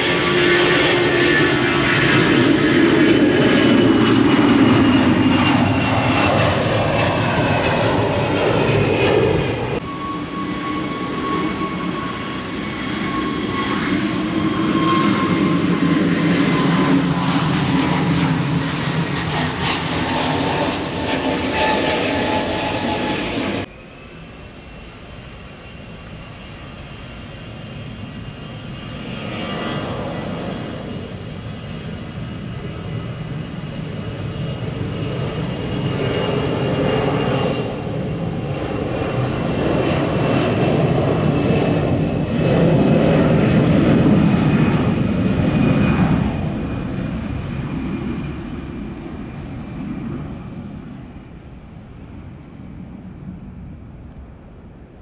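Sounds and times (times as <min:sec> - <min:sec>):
jet engines taking off: 0:00.0 - 0:55.0.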